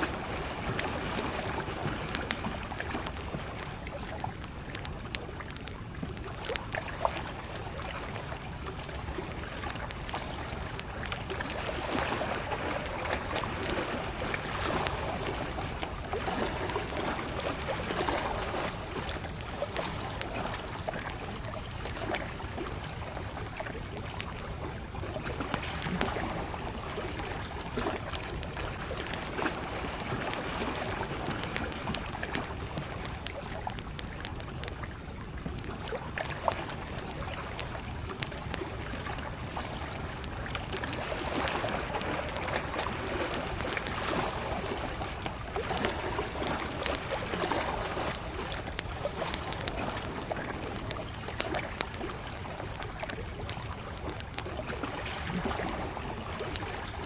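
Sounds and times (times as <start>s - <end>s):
campfire crackling: 0.0s - 57.0s
small waves lapping: 0.0s - 57.0s.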